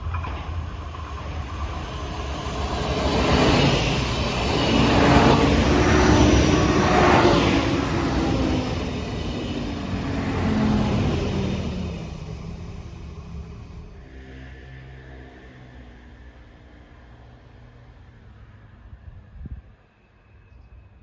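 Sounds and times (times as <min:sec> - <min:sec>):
train passing by: 0:00.0 - 0:21.0.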